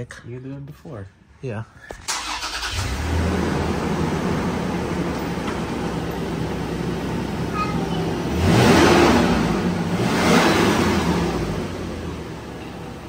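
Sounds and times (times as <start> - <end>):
car engine idling: 2.0 - 13.0
engine revving: 2.1 - 13.0.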